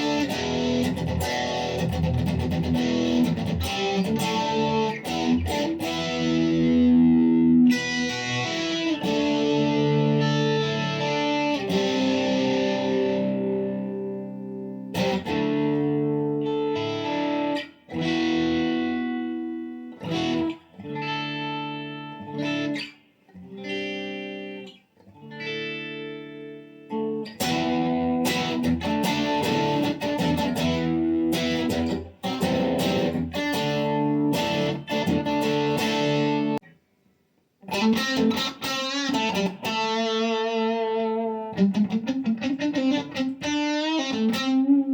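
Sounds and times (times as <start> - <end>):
electric guitar chords: 0.0 - 36.7, 37.6 - 44.9.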